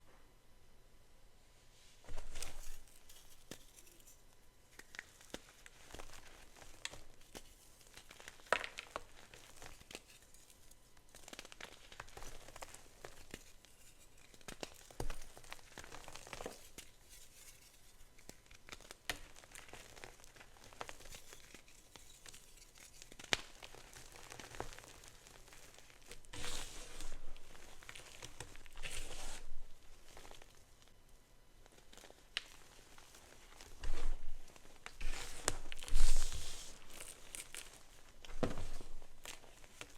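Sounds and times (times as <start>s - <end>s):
chalk crackling and crumbling: 2.0s - 39.9s.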